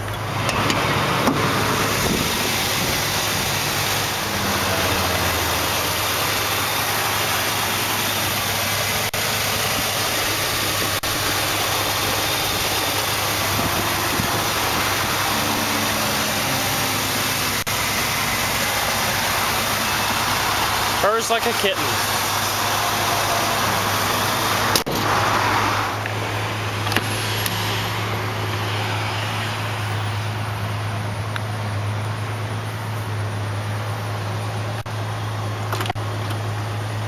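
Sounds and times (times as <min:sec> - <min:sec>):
pickup engine idling: 0:00.0 - 0:37.0.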